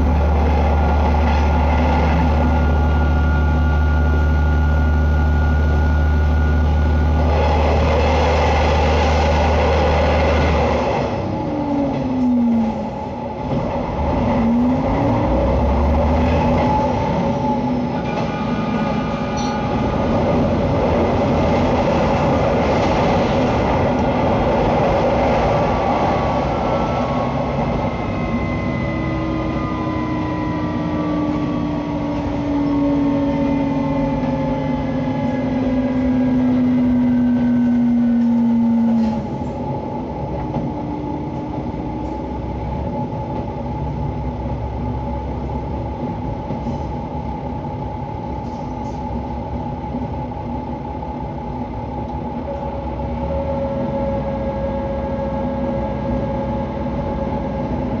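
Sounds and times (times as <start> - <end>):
diesel railcar engine: 0.0 - 58.0
railcar rolling noise: 0.0 - 58.0.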